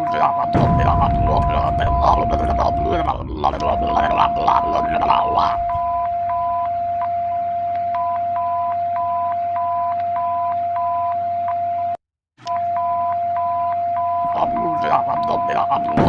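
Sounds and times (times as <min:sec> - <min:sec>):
emergency alert alarm tone: 0:00.0 - 0:16.0.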